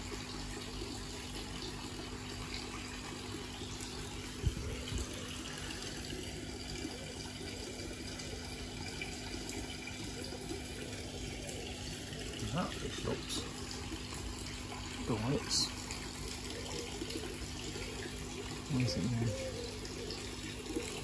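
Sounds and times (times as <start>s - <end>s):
water running into a pond: 0.0s - 21.0s.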